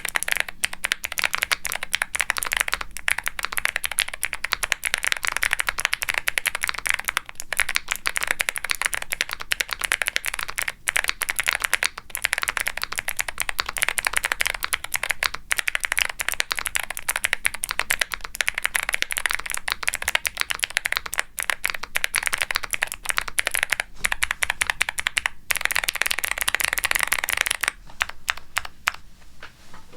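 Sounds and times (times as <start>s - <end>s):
fast typing on clicky keyboard: 0.0s - 29.0s.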